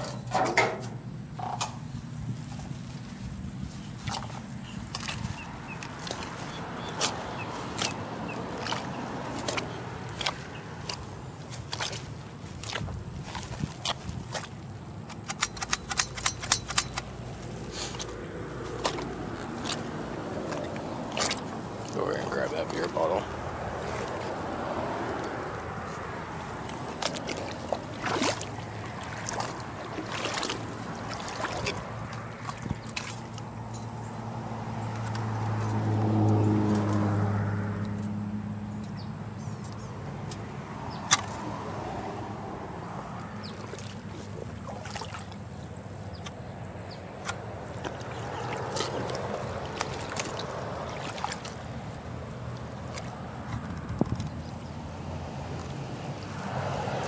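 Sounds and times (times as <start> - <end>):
vehicle engine passing: 0.0 - 14.5, 16.8 - 57.0
feet wading through water: 0.0 - 57.0.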